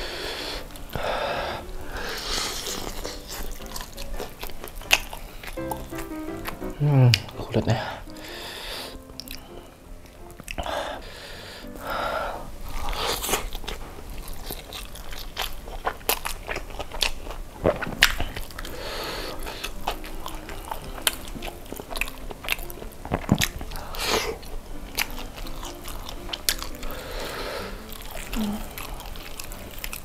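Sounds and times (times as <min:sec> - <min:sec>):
crunching fried chicken skin: 0:00.0 - 0:08.3, 0:12.6 - 0:30.0
person chewing: 0:00.0 - 0:30.0.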